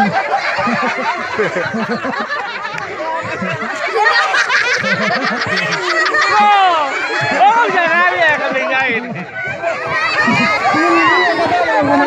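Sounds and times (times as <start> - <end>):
people laughing: 0.0 - 12.0
people talking: 0.0 - 12.0.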